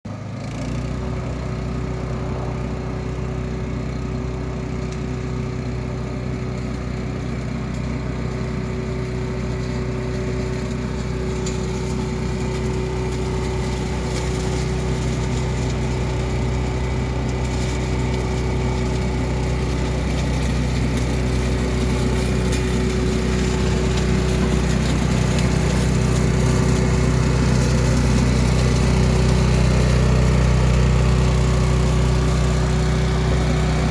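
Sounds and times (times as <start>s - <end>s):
leaf vacuum engine running: 0.1s - 33.9s
fan whine: 1.9s - 33.9s.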